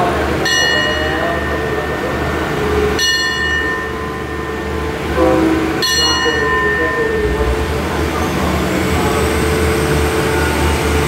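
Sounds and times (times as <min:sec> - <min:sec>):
train coaches rolling past: 0:00.0 - 0:11.0.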